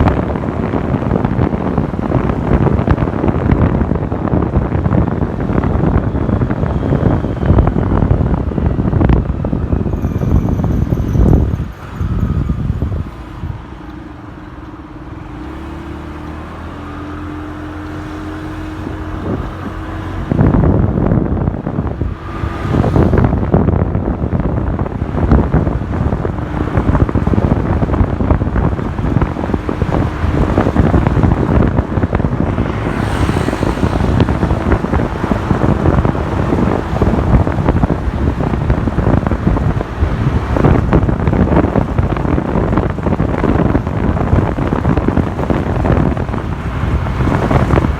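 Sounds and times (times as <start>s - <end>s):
motorcycle engine humming: 0.0s - 47.9s
wind noise on microphone: 0.0s - 47.9s.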